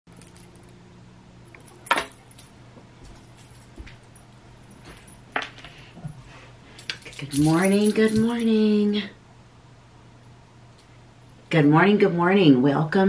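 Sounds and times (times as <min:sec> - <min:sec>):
low steady hum: 0:00.1 - 0:13.0.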